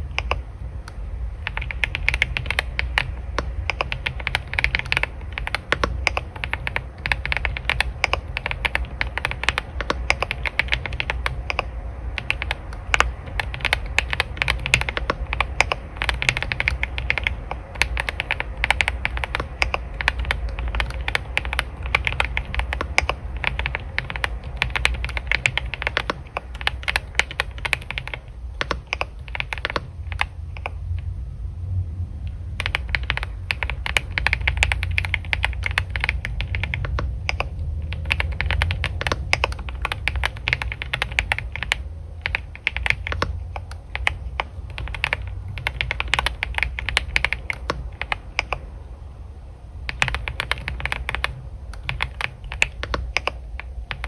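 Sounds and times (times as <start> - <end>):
keyboard typing: 0.0 - 31.1, 32.3 - 48.8, 49.7 - 54.0
low hum: 0.0 - 54.0.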